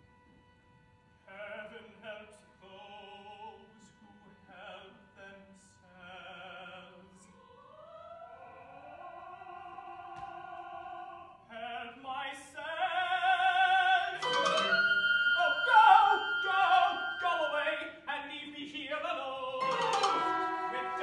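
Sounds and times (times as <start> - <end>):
operatic tenor singing: 1.3 - 21.0.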